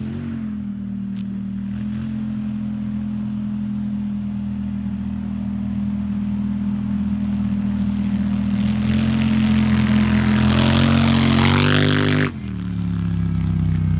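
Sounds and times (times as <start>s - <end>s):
atv engine revving: 0.0s - 13.9s.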